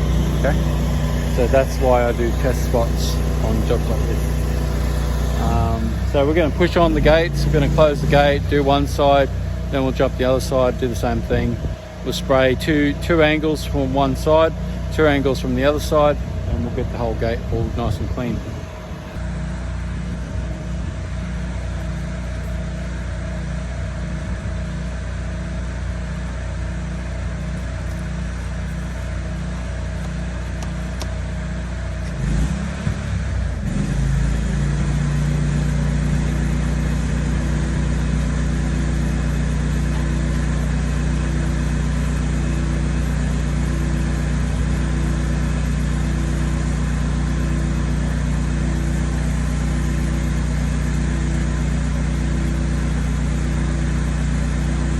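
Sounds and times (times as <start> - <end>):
pressure washer engine running: 0.0 - 54.9.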